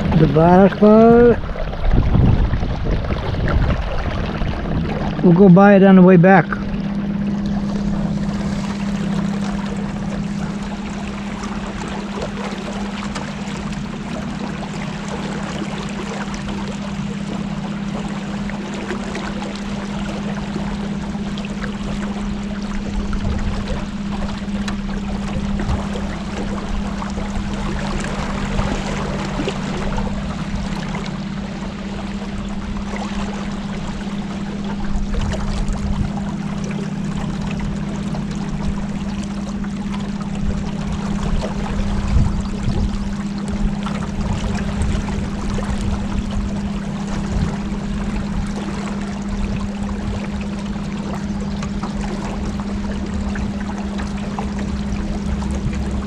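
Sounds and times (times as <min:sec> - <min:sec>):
boat motor humming: 0:00.0 - 0:56.0
water splashing along hull: 0:00.0 - 0:56.0.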